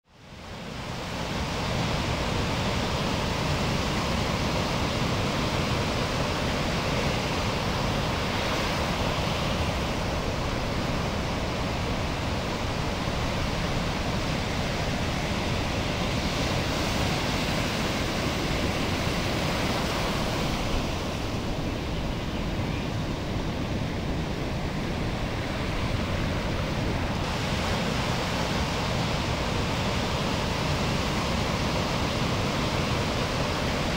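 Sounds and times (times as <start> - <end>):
ocean surf and breaking waves: 0.1 - 33.9.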